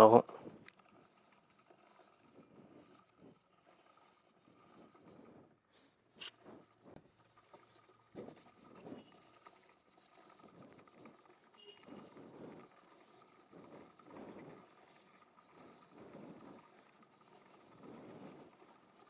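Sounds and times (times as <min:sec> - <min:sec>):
brush scrubbing chain: 0:00.0 - 0:19.0.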